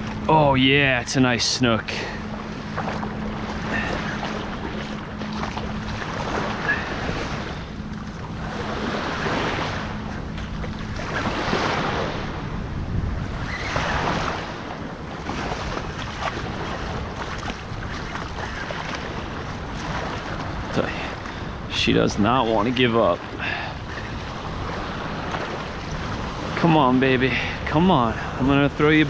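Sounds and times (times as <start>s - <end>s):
small waves washing onto sand: 0.0s - 29.0s.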